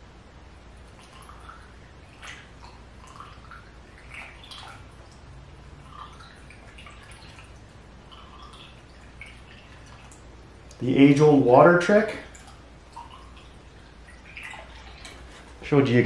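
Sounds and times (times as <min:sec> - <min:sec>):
water trickling and gurgling: 0:00.6 - 0:16.0.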